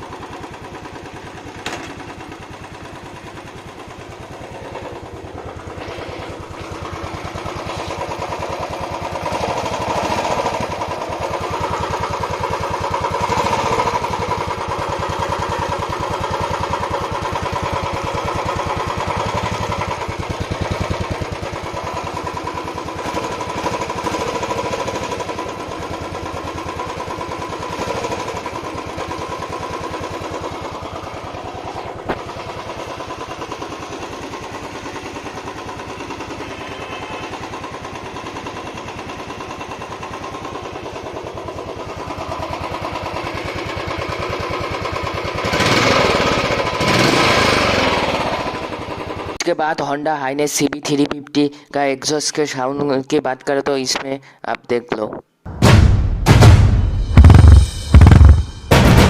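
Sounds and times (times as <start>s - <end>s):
motorcycle engine revving: 0.0s - 49.4s, 55.5s - 59.0s.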